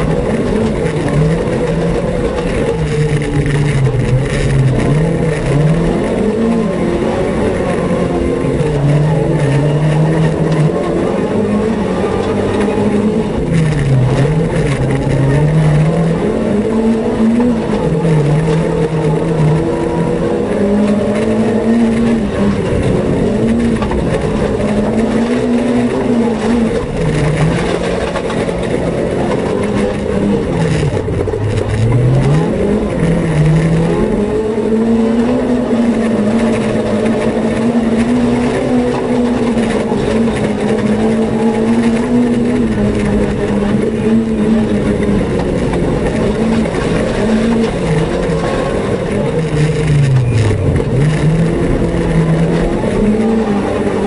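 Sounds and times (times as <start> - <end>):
rally car engine revving: 0.0 - 54.0
road noise: 0.0 - 54.0.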